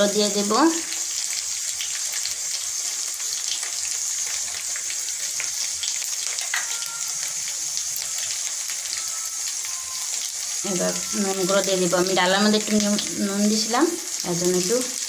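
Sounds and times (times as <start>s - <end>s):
oil sizzling with crackles: 0.0s - 15.0s.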